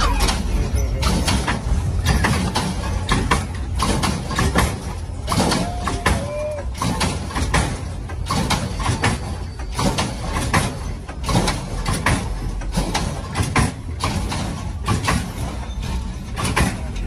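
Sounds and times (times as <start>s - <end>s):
hydraulic suspension metallic clunks: 0.0s - 17.0s.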